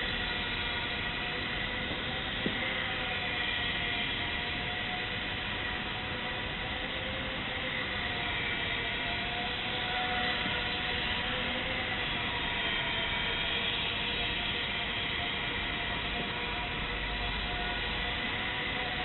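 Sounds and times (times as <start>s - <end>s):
small electric motor buzzing: 0.0s - 19.0s.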